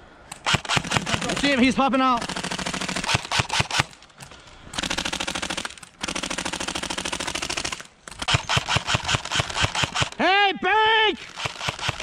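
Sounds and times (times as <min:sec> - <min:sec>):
airsoft gun firing full auto: 0:00.4 - 0:04.0, 0:04.8 - 0:10.2, 0:11.2 - 0:12.0.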